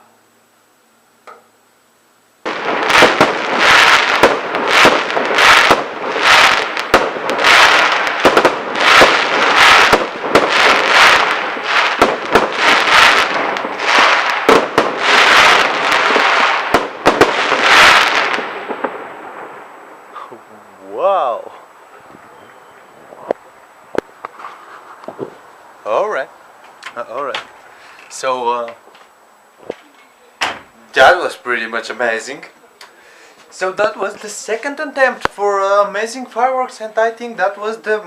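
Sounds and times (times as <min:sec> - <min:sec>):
fireworks crackling and popping: 0:02.4 - 0:38.0.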